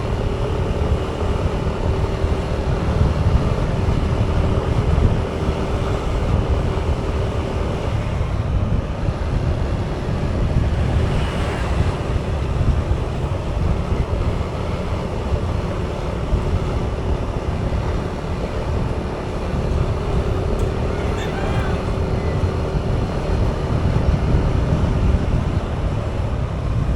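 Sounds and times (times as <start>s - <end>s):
motorbike engine: 0.0s - 26.9s
road noise: 0.0s - 26.9s
wind rushing over microphone: 0.0s - 26.9s.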